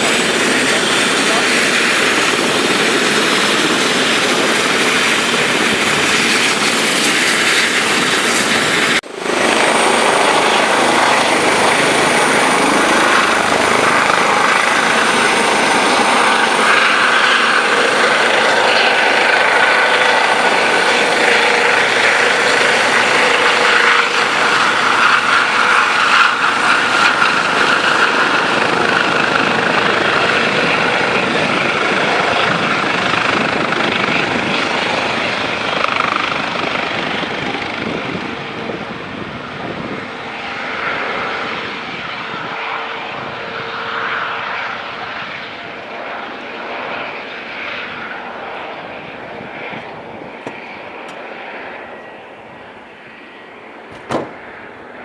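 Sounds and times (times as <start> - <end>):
helicopter rotor noise: 0.0 - 55.0
helicopter turbine whine: 0.0 - 55.0.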